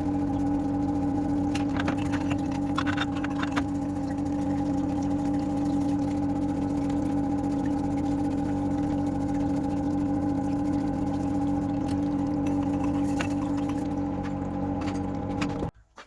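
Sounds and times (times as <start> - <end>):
rotary hammer motor running: 0.0 - 15.7.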